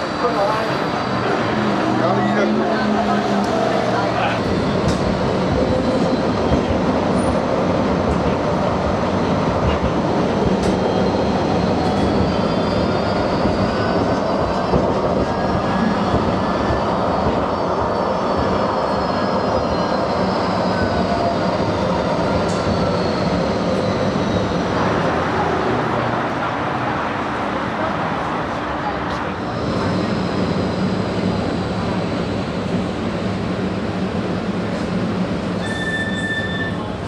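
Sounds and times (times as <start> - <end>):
tram running rumble: 0.0 - 37.0.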